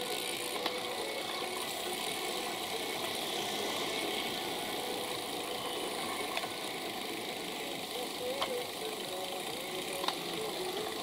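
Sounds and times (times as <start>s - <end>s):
bicycle road and wind noise: 0.0s - 11.0s.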